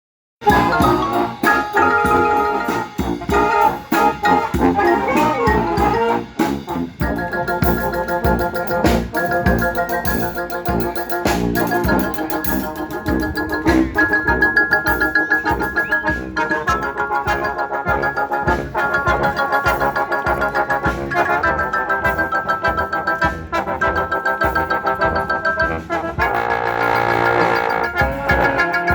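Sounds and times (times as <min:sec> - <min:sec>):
brass band playing: 0:00.4 - 0:28.9
steady drum beat: 0:00.4 - 0:28.9.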